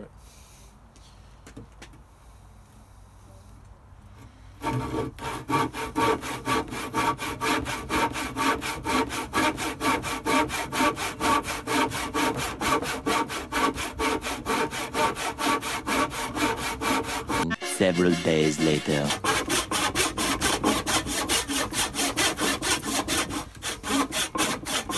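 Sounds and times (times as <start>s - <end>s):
hand saw cutting wood: 4.6s - 24.9s.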